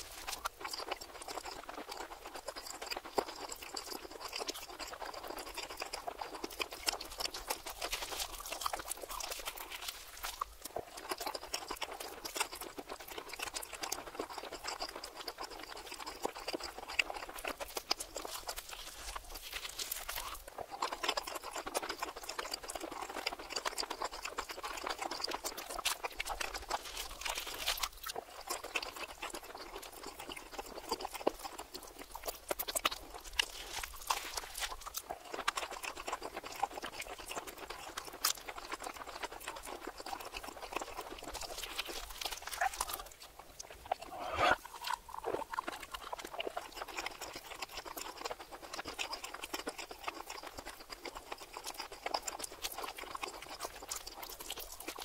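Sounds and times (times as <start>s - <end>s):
reversed chewing clicks and smacks: 0.0s - 55.0s.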